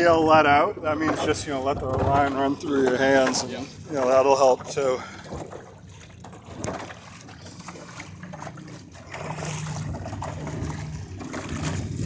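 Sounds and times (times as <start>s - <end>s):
water lapping against hull: 0.0s - 12.0s.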